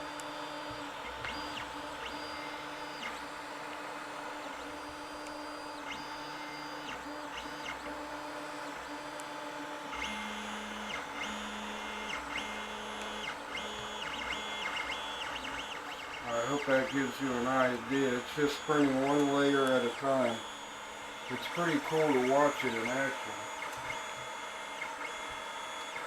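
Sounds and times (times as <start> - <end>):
stepper motors whining: 0.0 - 26.0
steady hum: 4.3 - 26.0.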